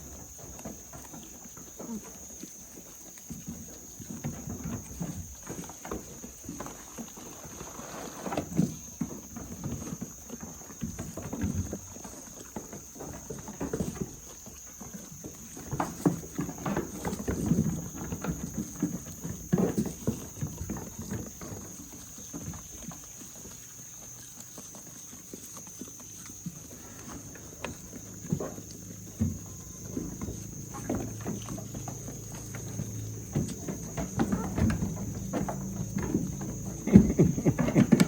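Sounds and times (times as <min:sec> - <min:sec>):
goat hooves knocking and scuffling: 0:00.0 - 0:38.0.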